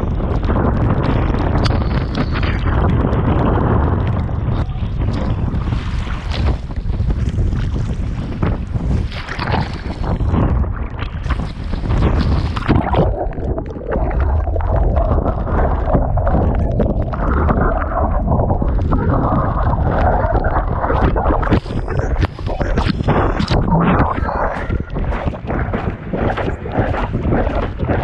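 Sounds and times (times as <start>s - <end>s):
strong wind on microphone: 0.0s - 28.0s
water rushing and splashing: 1.1s - 28.0s.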